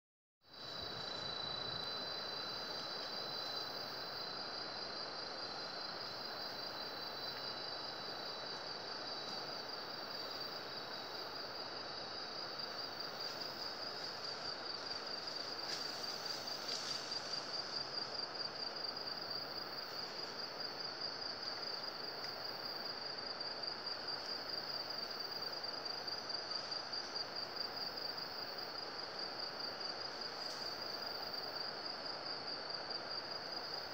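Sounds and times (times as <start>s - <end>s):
insects buzzing chorus: 0.5s - 33.9s
thin insect tone: 0.5s - 33.9s.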